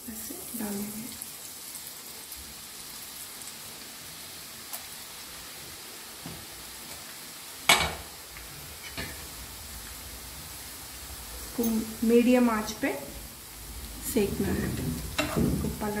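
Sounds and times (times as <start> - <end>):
batter sizzling in hot ghee: 0.0 - 16.0.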